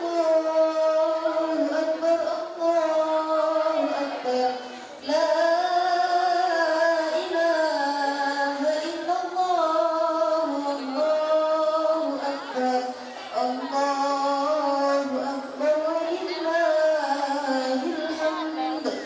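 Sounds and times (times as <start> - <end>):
woman chanting: 0.0 - 19.0.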